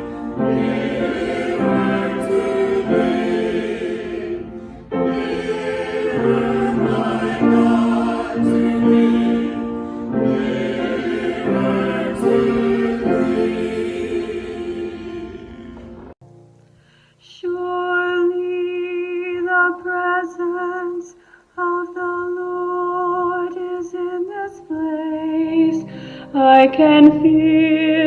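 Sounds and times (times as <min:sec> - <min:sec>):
slow worship music: 0:00.0 - 0:28.0.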